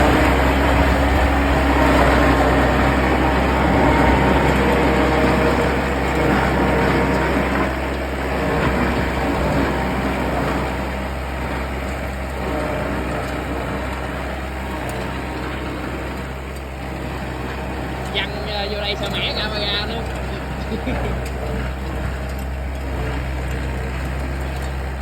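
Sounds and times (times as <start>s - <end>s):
harvester engine running: 0.0s - 25.0s.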